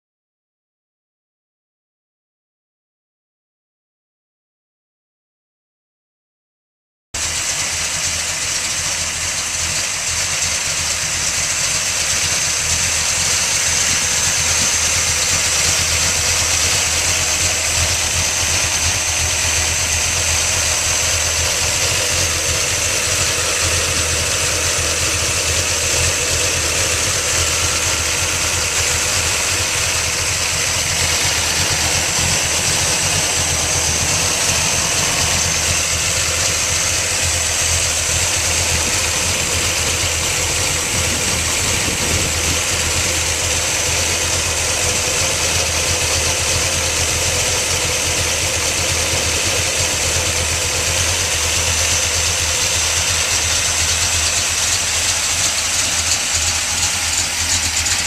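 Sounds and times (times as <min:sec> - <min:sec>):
car engine idling: 0:07.2 - 0:58.0.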